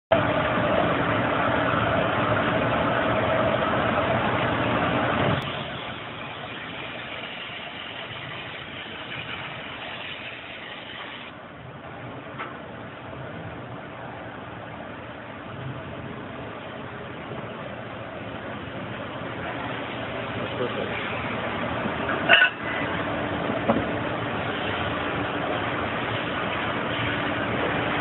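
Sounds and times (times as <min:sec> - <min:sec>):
machine running hum: 0:00.1 - 0:28.0.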